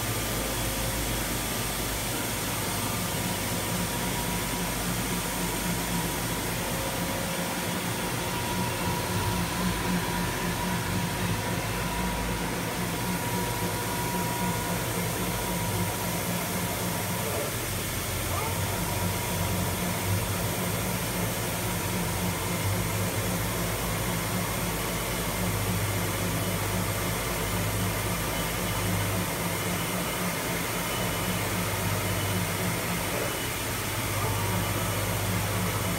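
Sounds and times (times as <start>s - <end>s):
factory hall hum and hiss: 0.0s - 35.9s.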